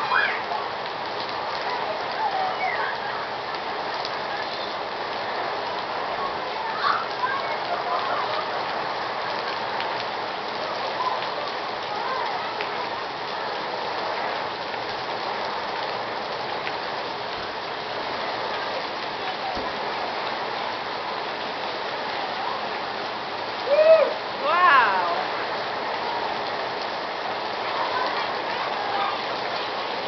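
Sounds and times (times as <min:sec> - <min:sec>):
heavy rain on pavement and cars: 0:00.0 - 0:30.0.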